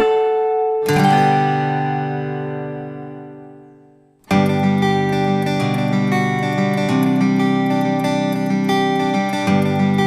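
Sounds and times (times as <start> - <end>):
acoustic guitar chord ringing: 0.0 - 10.0.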